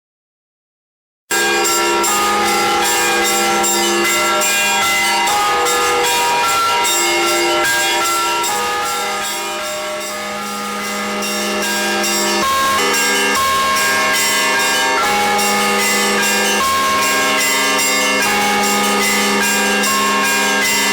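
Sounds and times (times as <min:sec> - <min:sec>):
hum of larger bells: 0:01.3 - 0:20.9
small church bells ringing: 0:01.3 - 0:20.9.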